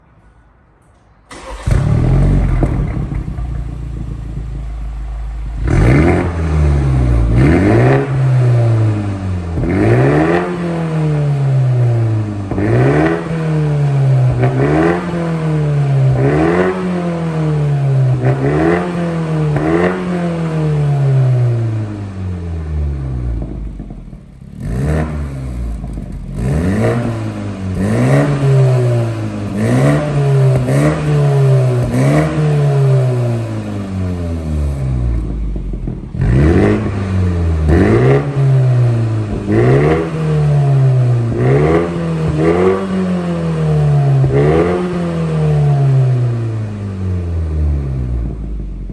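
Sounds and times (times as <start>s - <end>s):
car engine revving: 1.3s - 48.9s.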